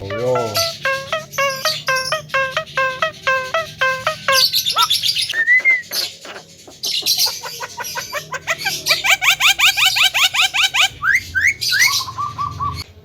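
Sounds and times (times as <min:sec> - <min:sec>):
bird singing and chattering: 0:00.0 - 0:12.9.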